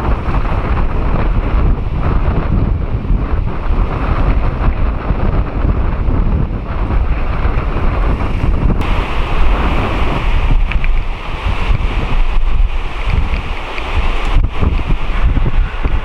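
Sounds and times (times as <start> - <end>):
jet engine rumble: 0.0 - 16.0
wind buffeting the microphone: 0.0 - 16.0.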